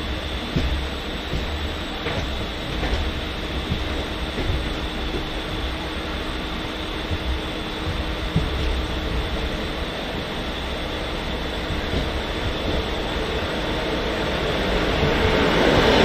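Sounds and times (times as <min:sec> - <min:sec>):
train wheels rumbling on rails: 0:00.0 - 0:16.0
wheels clicking over rail joints: 0:00.0 - 0:16.0.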